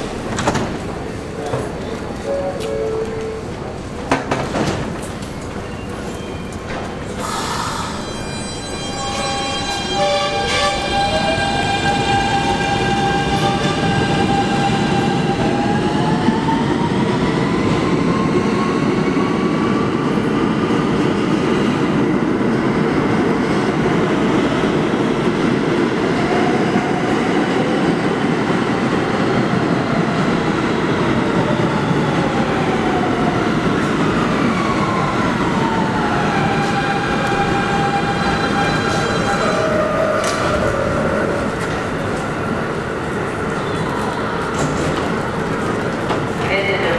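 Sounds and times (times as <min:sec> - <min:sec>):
rumble of wheels on rail: 0:00.0 - 0:46.9.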